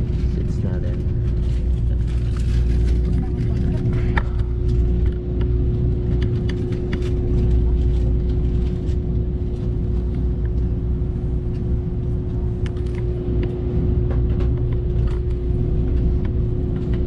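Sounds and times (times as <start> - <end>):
constant hum: 0.0 - 17.0
train rumbling: 0.0 - 17.0.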